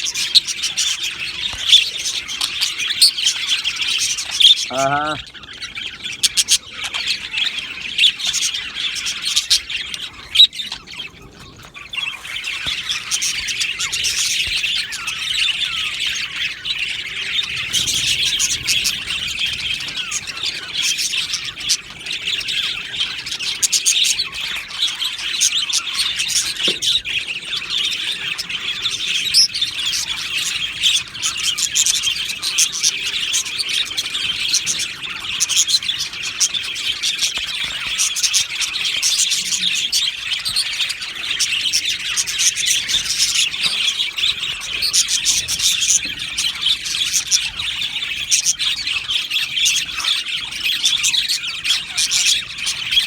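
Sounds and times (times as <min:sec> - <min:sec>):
budgerigars chattering and squawking: 0:00.0 - 0:53.0.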